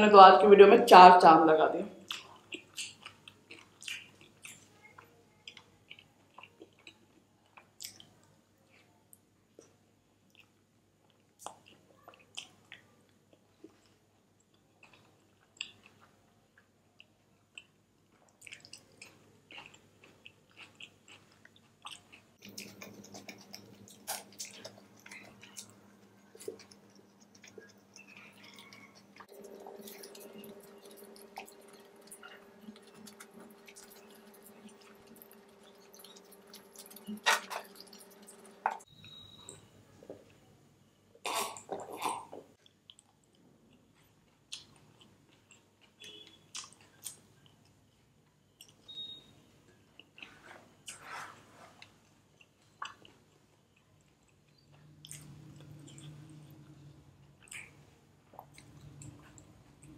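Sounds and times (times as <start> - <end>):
faint steady hum: 0.0 - 59.9
person chewing food: 2.0 - 40.5, 41.1 - 59.9.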